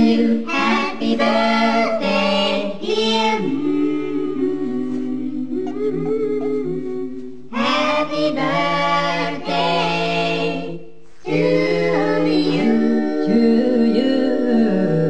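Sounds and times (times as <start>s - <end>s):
a cappella group singing: 0.0s - 15.0s.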